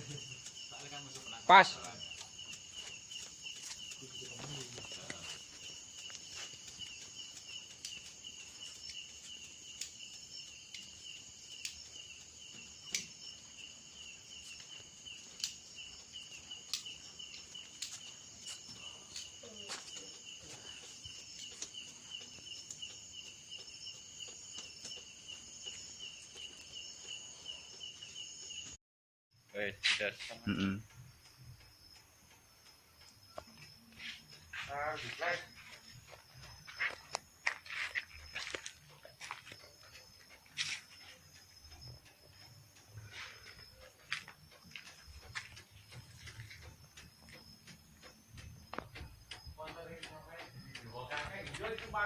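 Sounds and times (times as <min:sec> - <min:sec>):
crickets trilling: 0:00.0 - 0:28.8, 0:29.4 - 0:52.0.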